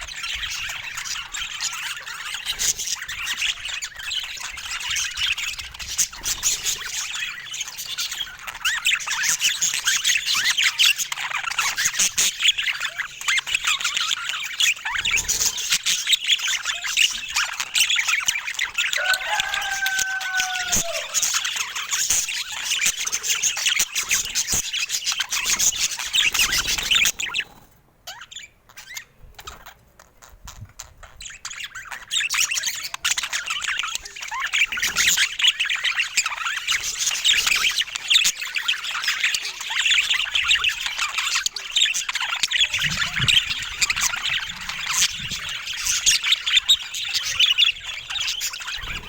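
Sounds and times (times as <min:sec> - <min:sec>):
budgerigars chattering and chirping: 0:00.0 - 0:49.0.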